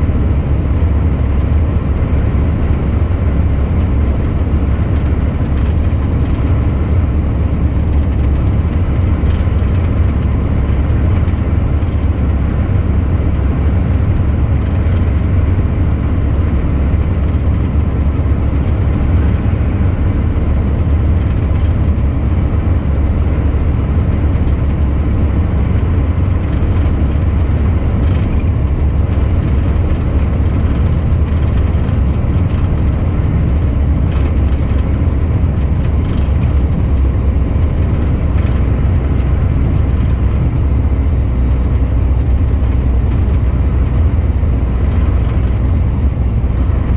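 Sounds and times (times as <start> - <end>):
truck engine and road drone: 0.0 - 46.9.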